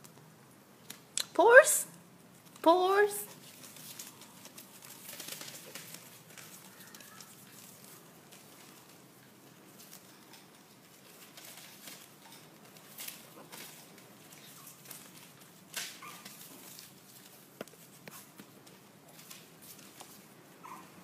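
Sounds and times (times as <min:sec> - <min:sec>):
puppies rustling newspaper: 0:02.2 - 0:21.0
small paws scratching and tapping: 0:02.2 - 0:21.0.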